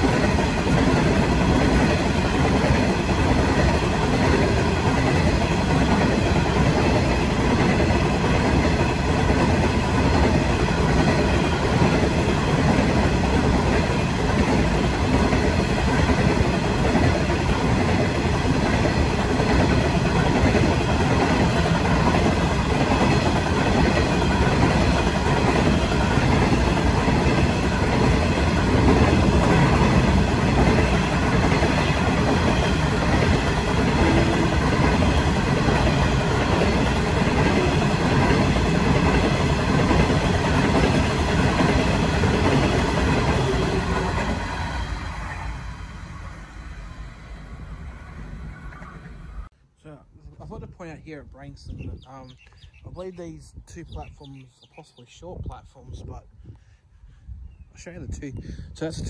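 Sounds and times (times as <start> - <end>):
freight train wheels on rails: 0.0 - 49.5.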